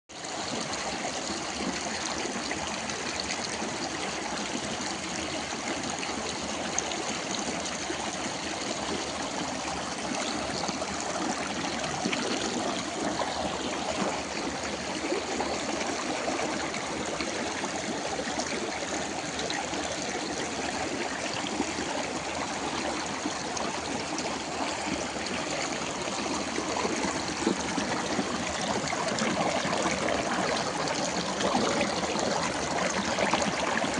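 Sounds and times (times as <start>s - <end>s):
stream running water: 0.1s - 33.9s.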